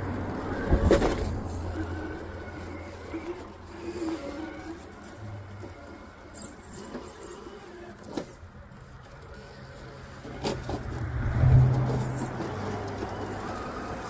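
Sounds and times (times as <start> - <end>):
electric motor and drivetrain hum: 0.0 - 14.0.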